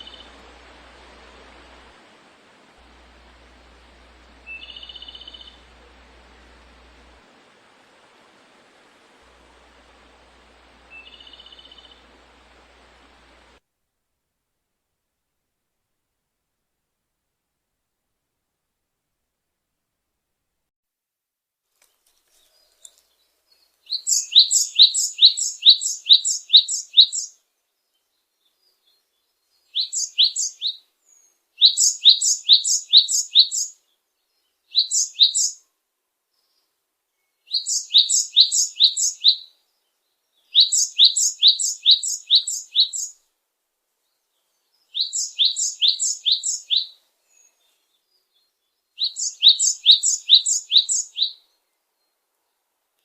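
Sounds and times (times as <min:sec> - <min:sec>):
bird chirping: 0:00.0 - 0:13.6, 0:22.4 - 0:35.7, 0:36.3 - 0:43.2, 0:44.0 - 0:52.7.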